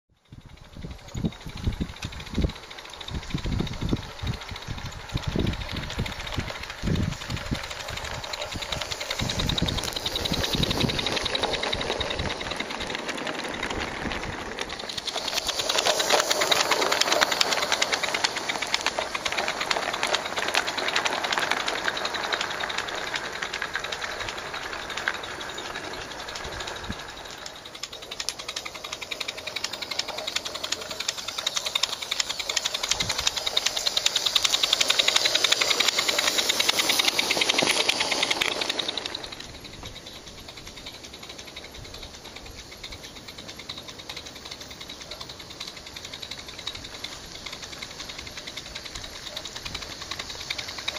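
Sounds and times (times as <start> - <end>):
steam locomotive exhaust beats: 0.1 - 50.9
wagons rattling on track: 0.2 - 50.9
steam hissing: 0.5 - 50.9.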